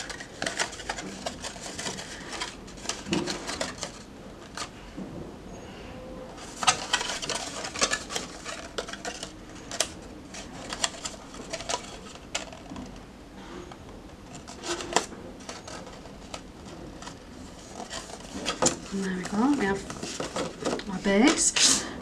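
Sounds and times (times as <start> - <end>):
card crinkling and clicking: 0.0 - 4.7, 6.4 - 13.0, 14.3 - 21.7.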